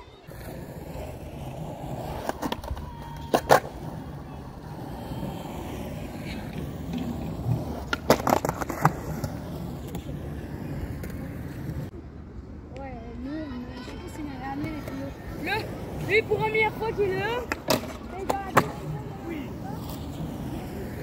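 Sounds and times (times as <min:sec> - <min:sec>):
skateboard wheels rolling on concrete: 0:00.0 - 0:21.0
skateboard clacking on ground: 0:00.3 - 0:11.9, 0:14.5 - 0:21.0.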